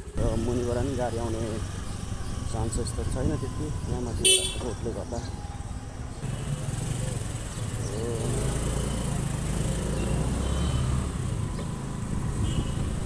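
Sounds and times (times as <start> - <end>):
road and traffic noise: 0.0 - 13.0
vehicle engine hum: 0.0 - 13.0.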